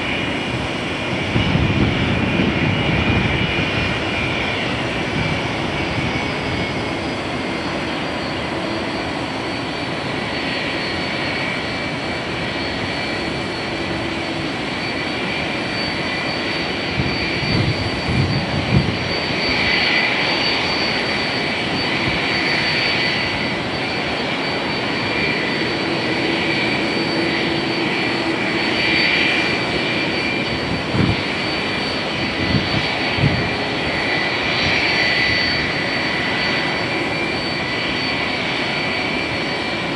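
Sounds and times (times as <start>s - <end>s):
jet engines humming and whining: 0.0s - 39.9s.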